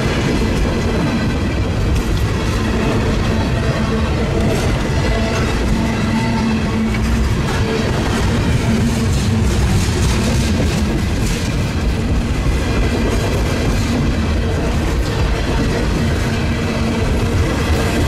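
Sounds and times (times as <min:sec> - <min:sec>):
freight train rumbling past: 0:00.0 - 0:18.0
rattle of train cars: 0:00.0 - 0:18.0.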